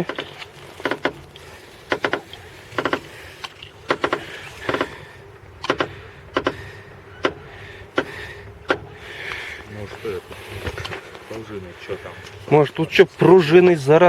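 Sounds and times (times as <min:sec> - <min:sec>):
steady low hum: 0:00.0 - 0:14.0
suspension clicking and creaking: 0:00.0 - 0:14.0.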